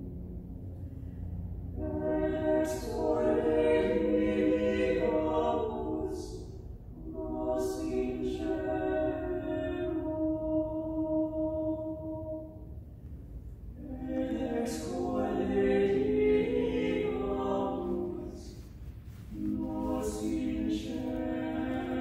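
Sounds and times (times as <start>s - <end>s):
small choir singing: 1.8s - 12.8s, 13.8s - 22.0s.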